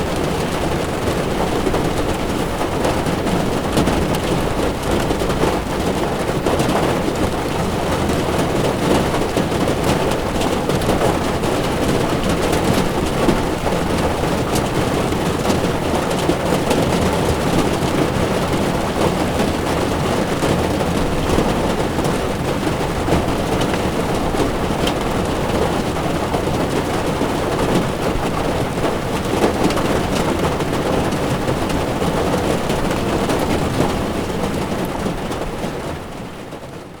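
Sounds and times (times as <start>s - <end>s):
heavy rain on windshield: 0.0s - 37.0s.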